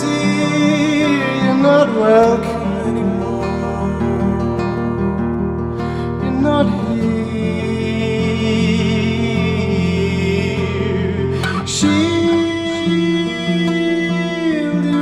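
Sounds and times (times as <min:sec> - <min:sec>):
man singing softly: 0:00.0 - 0:05.3, 0:06.0 - 0:15.0
acoustic guitar: 0:00.0 - 0:15.0.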